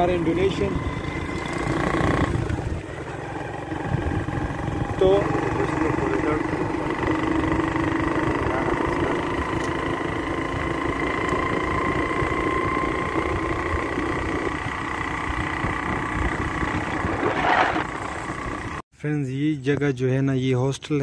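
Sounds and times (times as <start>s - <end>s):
motorcycle engine running: 0.0s - 18.8s
road and wind noise: 0.0s - 18.8s.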